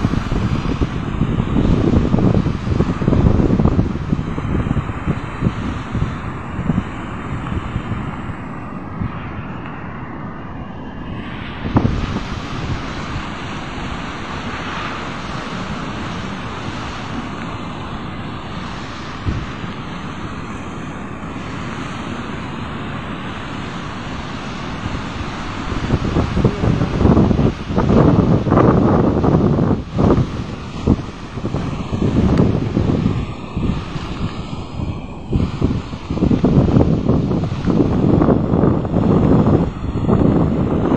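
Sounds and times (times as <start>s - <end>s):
surf breaking on shore: 0.0s - 40.9s
wind buffeting microphone: 0.0s - 40.9s.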